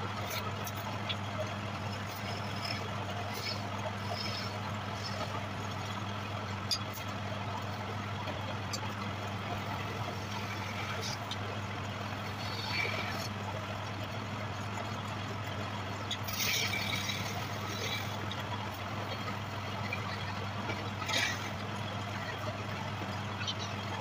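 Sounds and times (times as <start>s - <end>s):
lathe motor humming: 0.0s - 24.0s.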